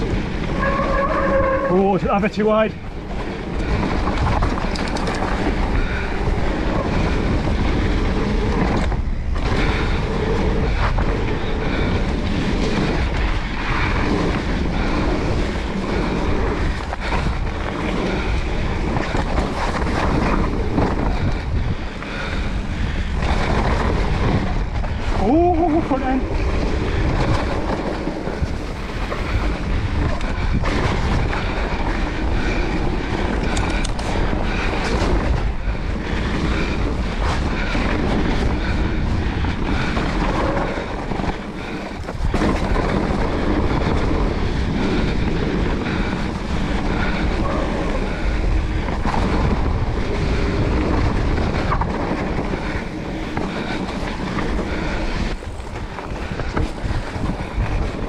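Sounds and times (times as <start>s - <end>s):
bike clattering and rattling: 0.0s - 58.0s
wind buffeting microphone: 0.0s - 58.0s.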